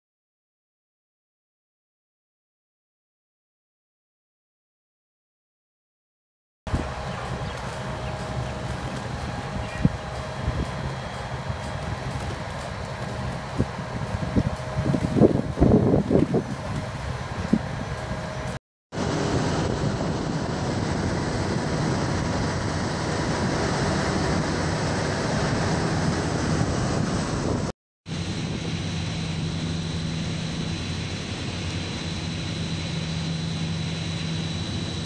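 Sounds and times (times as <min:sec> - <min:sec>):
faint high whine: 0:06.7 - 0:35.0
low machine hum: 0:06.7 - 0:35.0.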